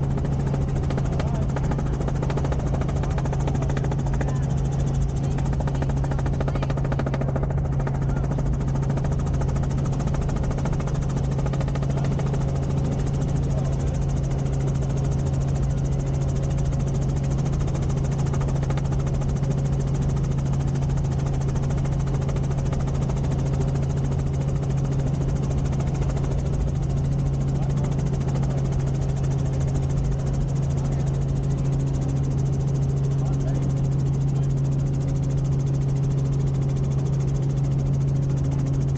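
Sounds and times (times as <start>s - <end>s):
helicopter engine and rotors: 0.0s - 38.9s.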